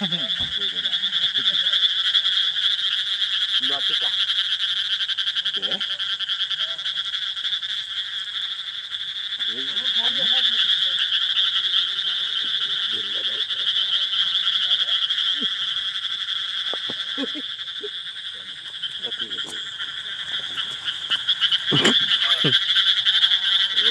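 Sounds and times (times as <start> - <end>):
faint voices: 0.0 - 7.5, 9.4 - 23.9
animals chirping: 0.0 - 23.9.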